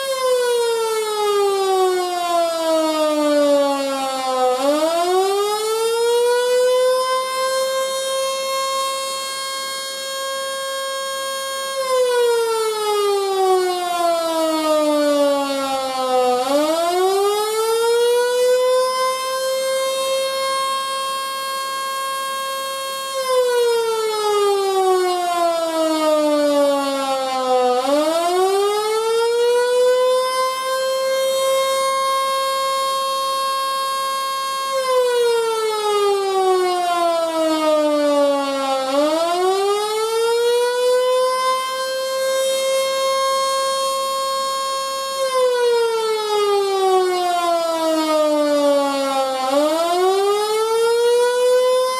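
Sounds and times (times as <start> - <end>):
electric siren wailing: 0.0 - 51.9.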